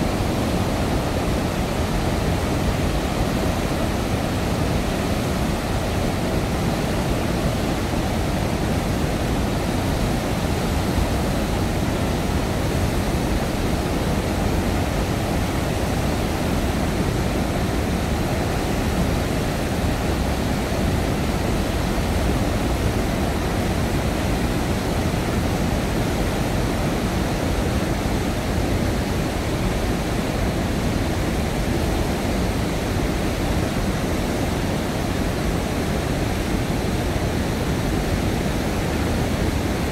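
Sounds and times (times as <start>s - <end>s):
floodwater roaring: 0.0s - 39.9s.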